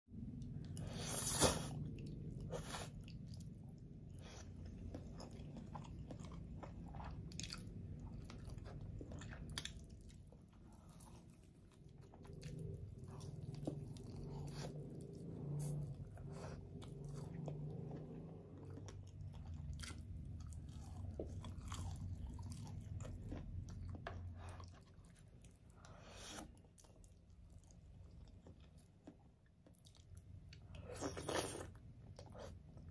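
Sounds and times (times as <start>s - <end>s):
person chewing crunchy food: 0.2s - 32.9s.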